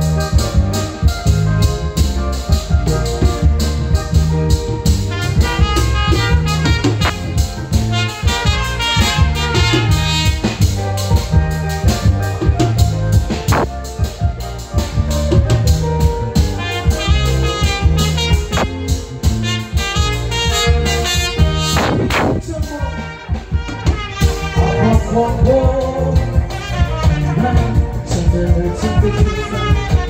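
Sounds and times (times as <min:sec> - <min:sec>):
bass guitar: 0:00.0 - 0:30.0
congas: 0:00.0 - 0:30.0
drum kit: 0:00.0 - 0:30.0
trumpet: 0:00.0 - 0:30.0.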